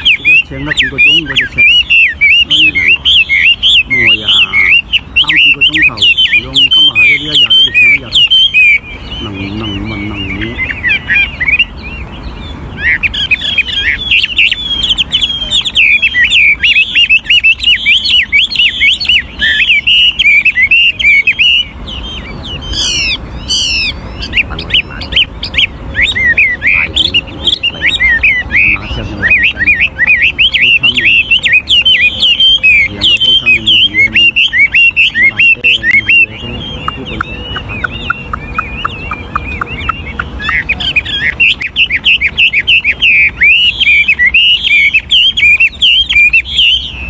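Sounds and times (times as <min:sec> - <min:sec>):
bird singing trills and warbles: 0:00.0 - 0:47.0
loud high sweeping bird notes: 0:00.0 - 0:47.0.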